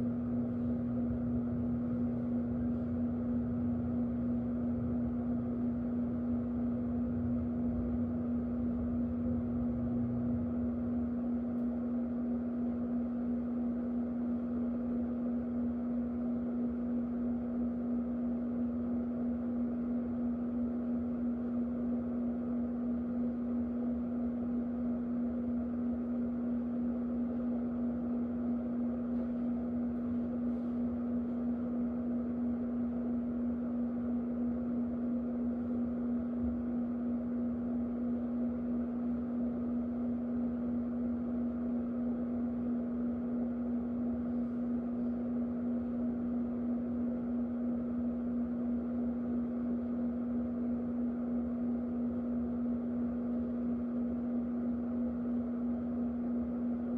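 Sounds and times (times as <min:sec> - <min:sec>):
electric fan running: 0:00.0 - 0:56.9.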